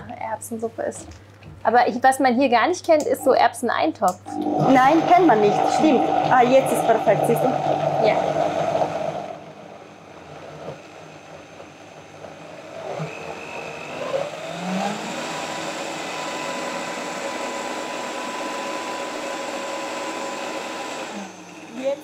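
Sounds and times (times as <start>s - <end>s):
blender motor running: 4.3s - 22.0s.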